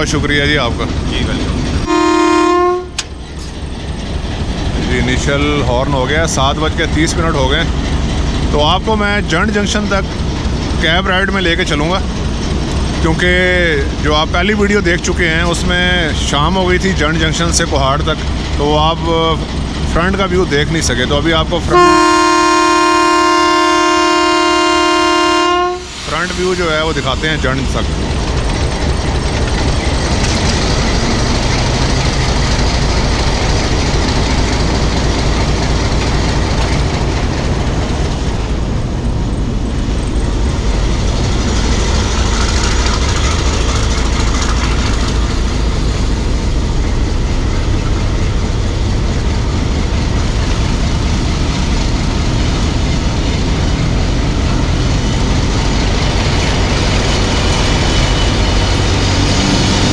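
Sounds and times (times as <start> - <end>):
diesel locomotive engine drone: 0.0 - 59.9
train rumbling on track: 0.0 - 59.9.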